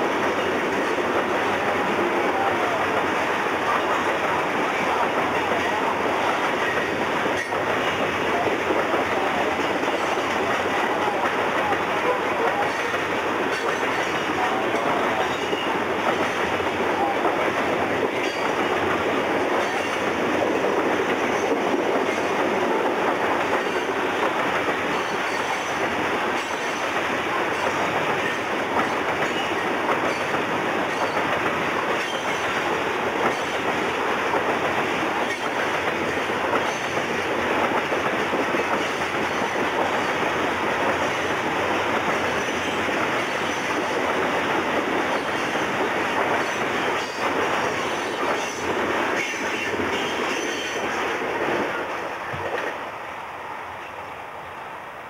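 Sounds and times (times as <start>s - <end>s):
steel wheels rolling on rail: 0.0s - 55.0s.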